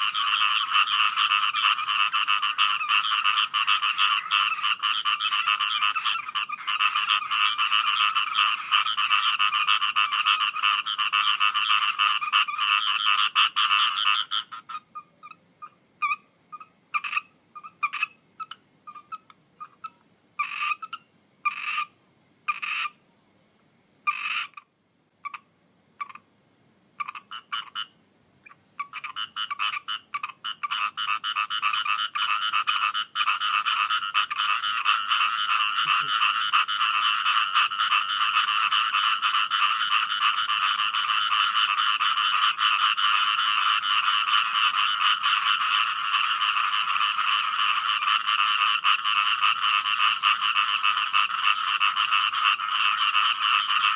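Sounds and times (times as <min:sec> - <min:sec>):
chorus of frogs croaking: 0:00.0 - 0:53.9.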